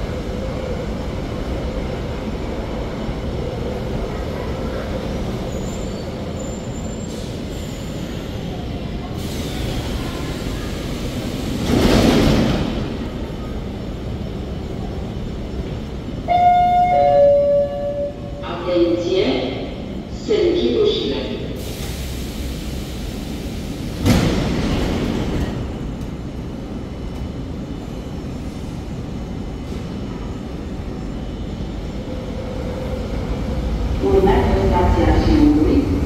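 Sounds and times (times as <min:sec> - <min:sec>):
metro train rumbling: 0:00.0 - 0:36.0.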